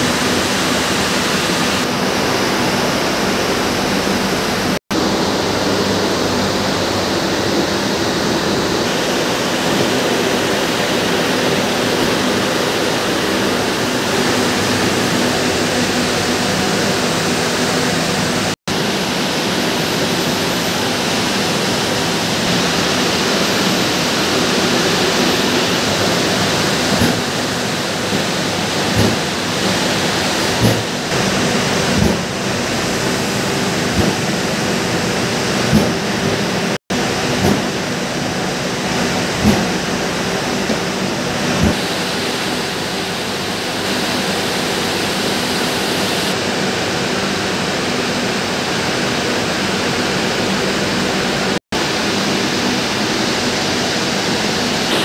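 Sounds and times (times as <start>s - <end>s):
spinning machinery whooshing hum: 0.0s - 48.3s.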